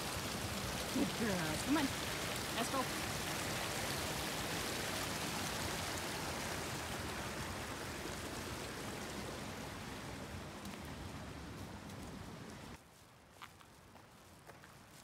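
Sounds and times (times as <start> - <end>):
creek water rushing: 0.0 - 12.8.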